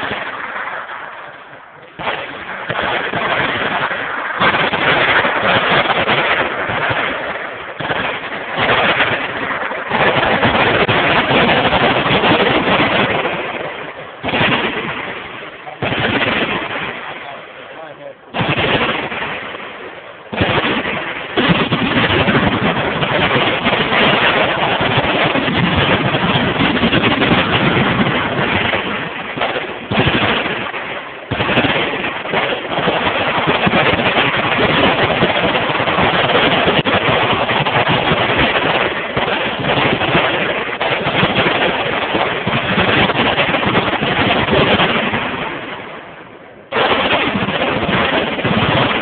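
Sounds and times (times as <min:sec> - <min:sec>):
machine gun fire: 0:02.0 - 0:45.8, 0:46.7 - 0:49.0.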